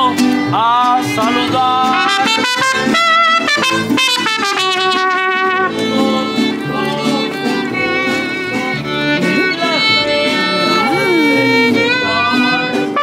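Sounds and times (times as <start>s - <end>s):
mariachi band playing: 0.0s - 13.0s
trumpets holding notes: 1.9s - 13.0s.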